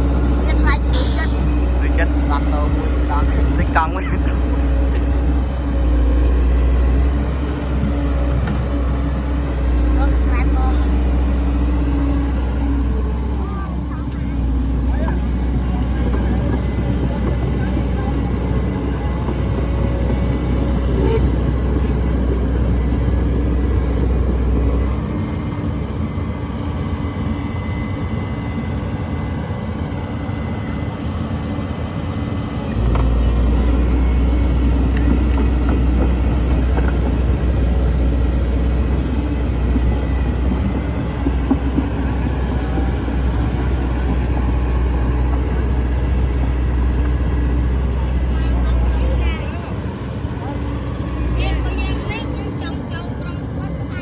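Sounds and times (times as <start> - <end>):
excavator diesel engine rumbling: 0.0 - 54.0.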